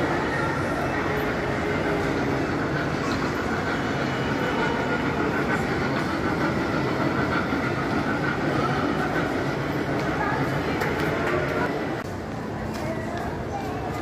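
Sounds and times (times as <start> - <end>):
kiddie train running with whine: 0.0 - 14.0
mall background hubbub: 0.0 - 14.0.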